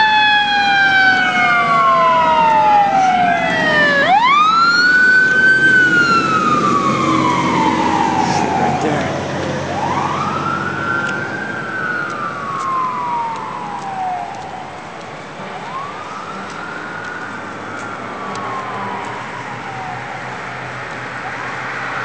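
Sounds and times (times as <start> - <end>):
emergency vehicle siren wailing: 0.0 - 22.0
traffic noise: 0.0 - 22.0.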